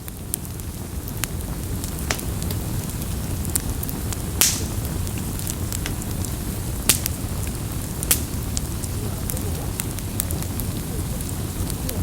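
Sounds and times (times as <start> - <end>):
campfire crackling and popping: 0.0 - 12.0
low fire rumble: 0.0 - 12.0
wood snapping in fire: 0.0 - 12.0.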